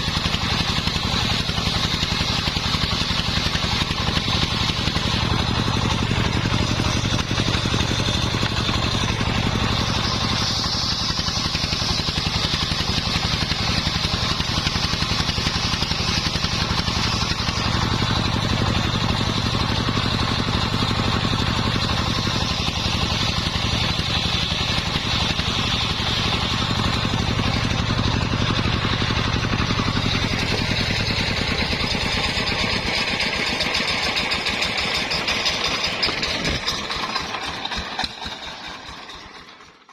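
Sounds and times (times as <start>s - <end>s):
saw blade hissing through wood: 0.0s - 34.7s
sawmill engine humming: 0.0s - 39.9s.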